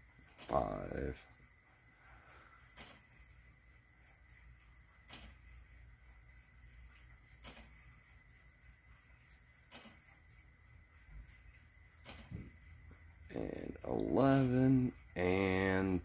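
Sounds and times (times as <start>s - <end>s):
clock hammer strokes: 2.6s - 16.0s.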